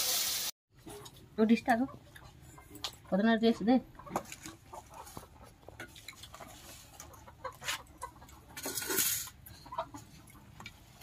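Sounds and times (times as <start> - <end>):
chickens clucking: 0.8 - 11.0.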